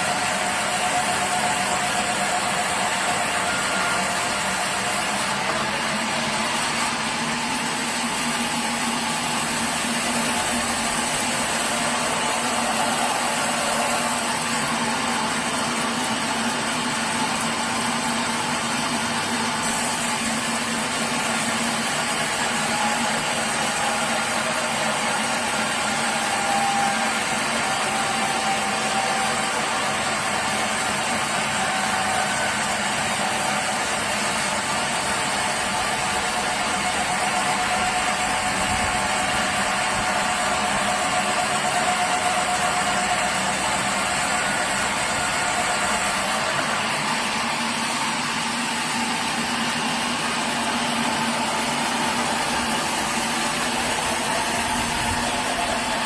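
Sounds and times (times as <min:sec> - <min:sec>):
sawmill machine drone: 0:00.0 - 0:56.0.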